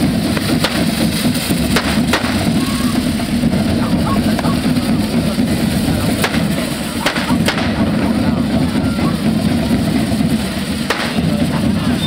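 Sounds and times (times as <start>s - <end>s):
sharp crack: 0.0s - 8.5s, 10.4s - 11.6s
drumming: 0.0s - 12.0s
fireworks hissing: 0.0s - 12.0s.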